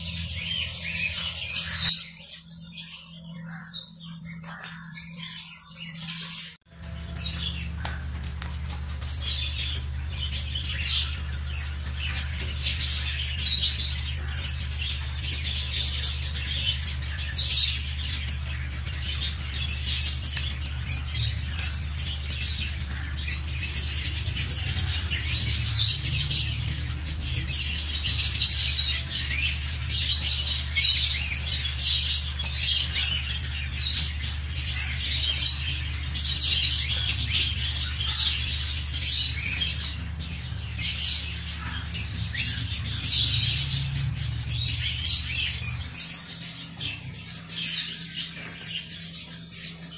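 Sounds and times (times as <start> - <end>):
ducklings peeping: 0.0 - 49.9
steady low hum: 0.0 - 49.9.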